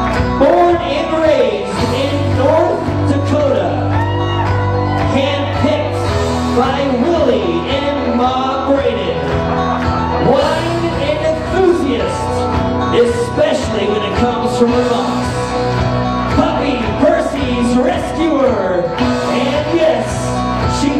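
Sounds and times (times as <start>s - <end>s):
song with singer over bass: 0.0s - 20.9s.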